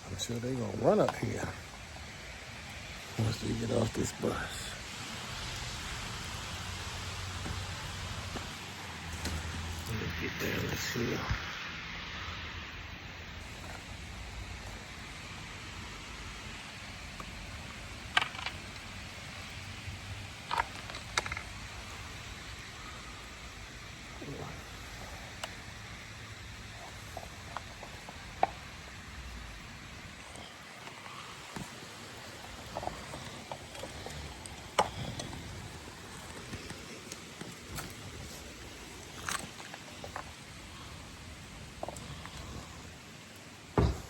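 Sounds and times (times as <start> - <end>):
light rain falling: 0.0 - 44.0.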